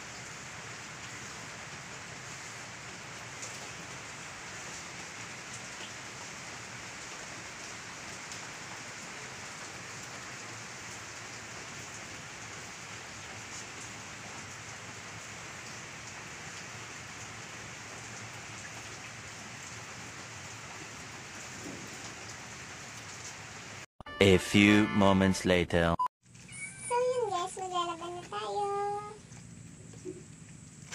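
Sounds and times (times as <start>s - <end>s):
rain hiss: 0.0s - 23.9s, 27.0s - 30.9s.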